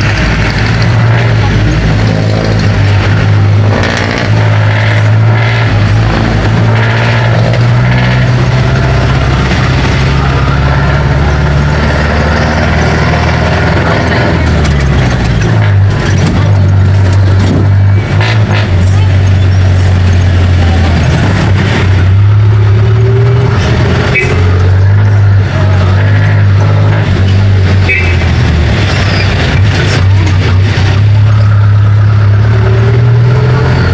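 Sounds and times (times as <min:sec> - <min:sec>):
diesel engine drone: 0:00.0 - 0:33.9
road rumble: 0:00.0 - 0:33.9.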